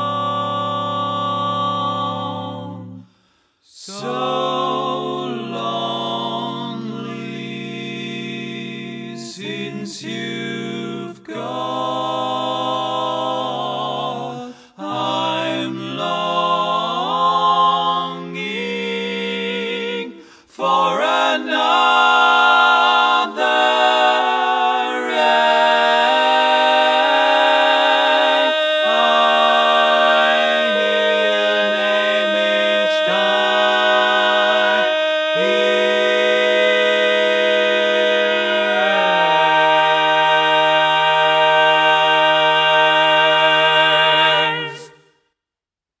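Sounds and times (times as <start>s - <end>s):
male a cappella harmony singing: 0.0s - 3.0s, 3.7s - 45.1s.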